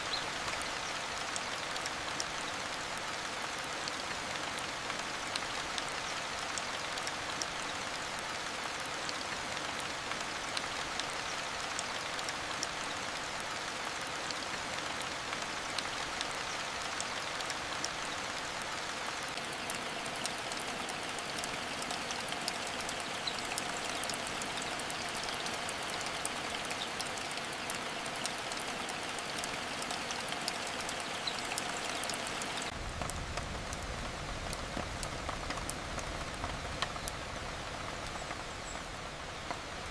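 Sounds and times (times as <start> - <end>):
rain drops ticking on a surface: 0.0 - 39.9.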